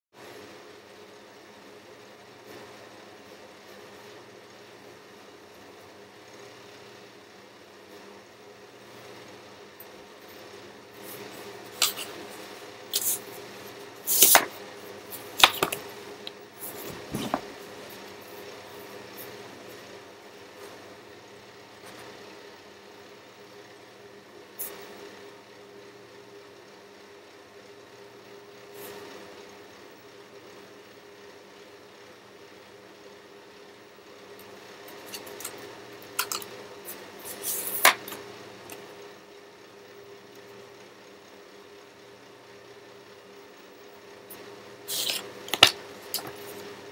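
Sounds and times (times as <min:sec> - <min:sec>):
faint steady hum: 0:00.2 - 0:46.9.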